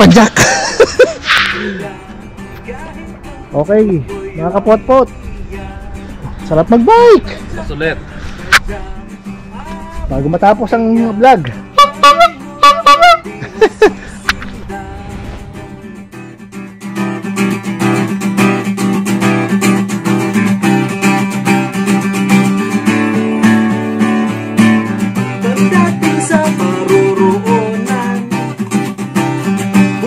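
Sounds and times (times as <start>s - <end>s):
strummed guitar music: 0.0s - 30.0s.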